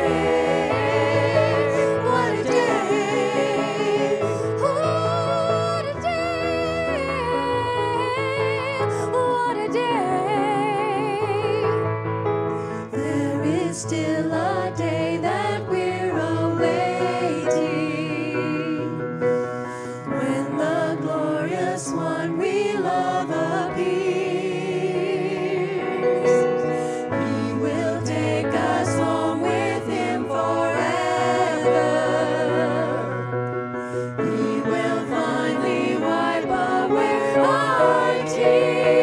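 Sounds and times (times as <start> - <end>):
vocal group singing in harmony: 0.0 - 11.7, 12.8 - 39.0.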